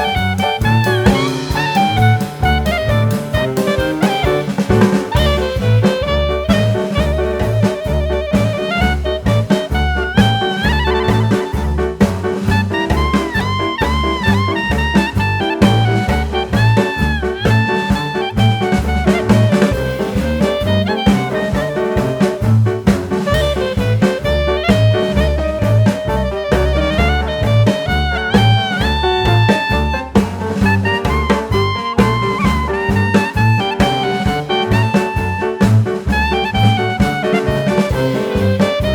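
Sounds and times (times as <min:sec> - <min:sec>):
bass and drum beat: 0:00.0 - 0:38.9
shrill lead melody with sliding notes: 0:00.0 - 0:38.9.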